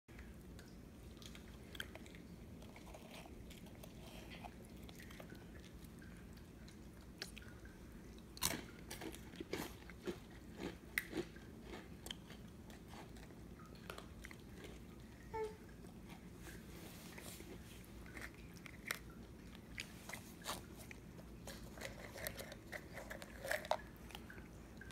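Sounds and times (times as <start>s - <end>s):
chewing crisp biscuit sticks: 0.6s - 24.9s.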